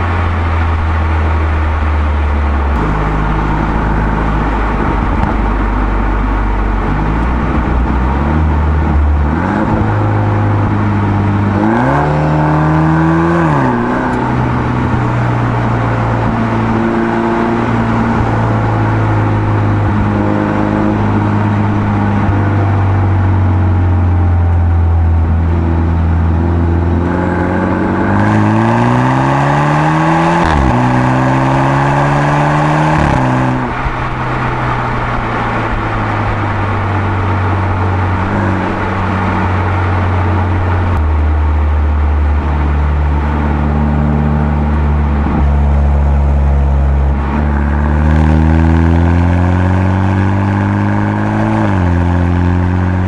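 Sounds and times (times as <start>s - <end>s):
car engine droning while driving: 0.0s - 53.0s.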